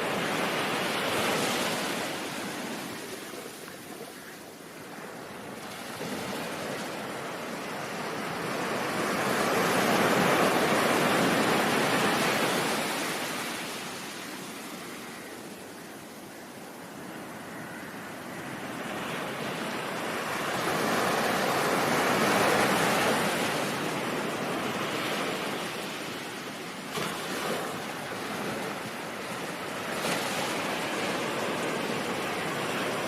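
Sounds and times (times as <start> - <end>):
ocean wave washing: 0.0 - 15.6, 17.3 - 33.0.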